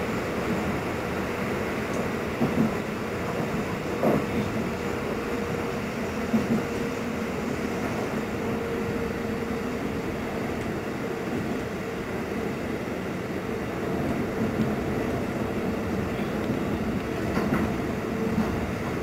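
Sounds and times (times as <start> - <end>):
train wheels rumbling in tunnel: 0.0 - 19.0.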